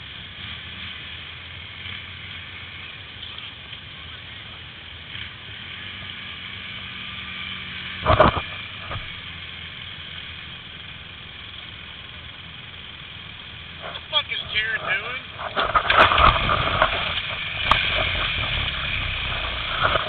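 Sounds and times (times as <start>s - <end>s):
engine churning through muddy water: 0.0s - 20.0s
quad engine running: 0.0s - 20.0s.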